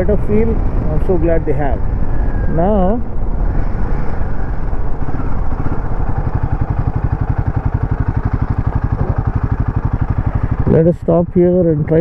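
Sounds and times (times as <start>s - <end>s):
motorcycle engine at low revs: 0.0s - 12.0s
wind and road noise: 0.0s - 12.0s.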